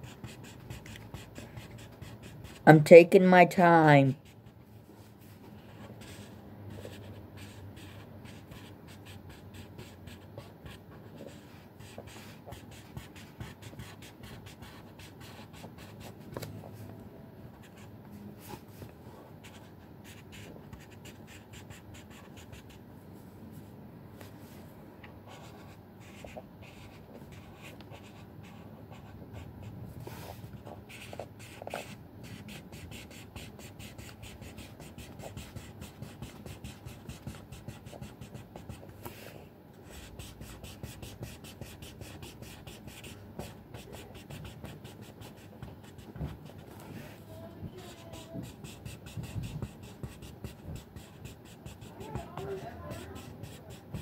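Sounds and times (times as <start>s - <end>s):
marker scratching on paper: 0.0s - 2.8s, 5.2s - 16.2s, 17.6s - 18.6s, 19.4s - 22.8s, 25.3s - 54.0s.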